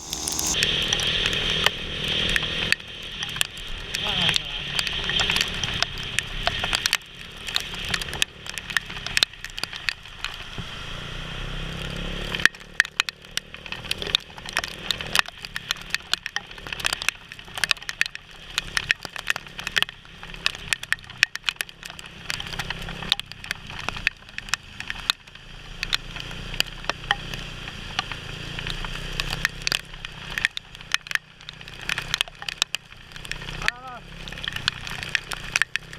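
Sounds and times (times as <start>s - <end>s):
motorbike rumble: 0.0s - 35.9s
raindrops striking helmet: 0.0s - 35.9s.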